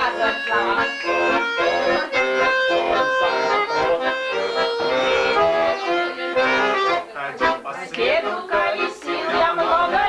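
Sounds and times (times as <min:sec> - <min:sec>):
accordion playing: 0:00.0 - 0:10.0.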